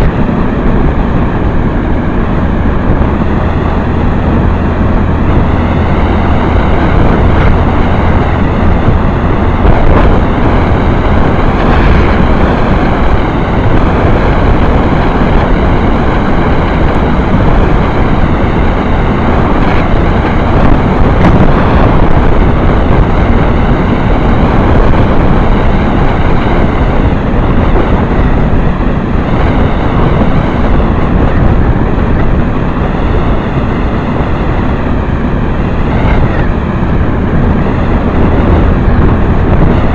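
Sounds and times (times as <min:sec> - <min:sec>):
low hum: 0:00.0 - 0:39.9
motorcycle engine running: 0:00.0 - 0:39.9
wind on microphone: 0:00.0 - 0:39.9.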